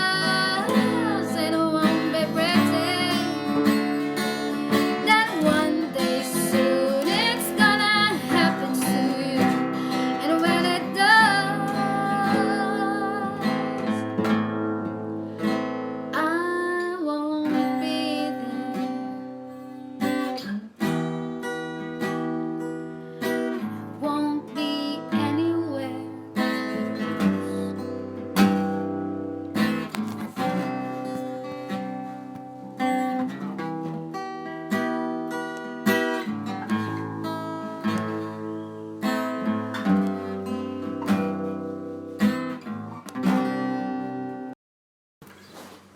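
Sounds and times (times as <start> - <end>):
strummed acoustic guitar: 0.0 - 44.5.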